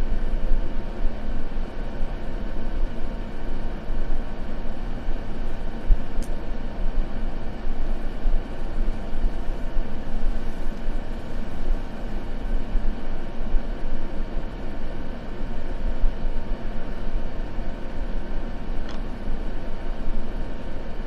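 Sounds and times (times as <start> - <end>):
low rumbling white noise: 0.0 - 21.0.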